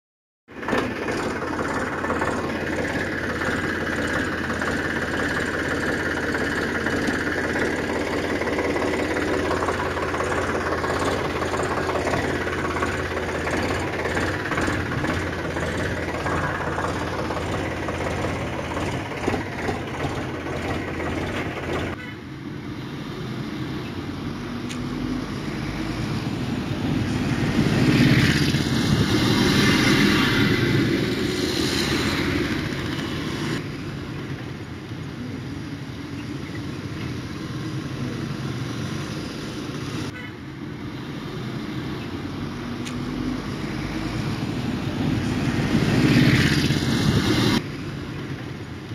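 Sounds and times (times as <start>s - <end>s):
vehicle engine running: 0.5s - 48.9s.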